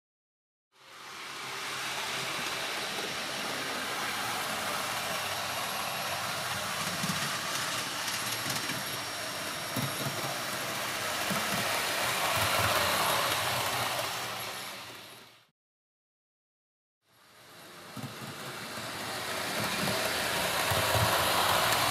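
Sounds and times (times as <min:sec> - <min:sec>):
model train wheels rushing on track: 0:00.8 - 0:15.5, 0:17.1 - 0:21.9.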